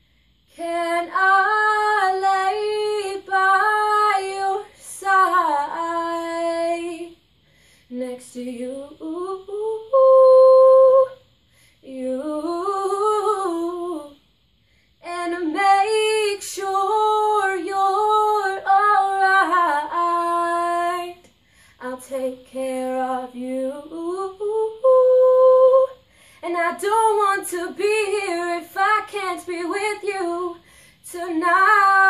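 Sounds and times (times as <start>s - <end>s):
woman singing a cappella: 0.5s - 14.3s, 15.0s - 32.0s.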